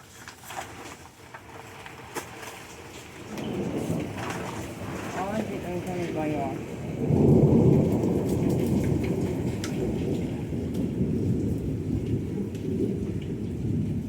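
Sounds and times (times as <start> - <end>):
rain falling: 0.0 - 14.0
thunder rumbling: 1.9 - 14.0.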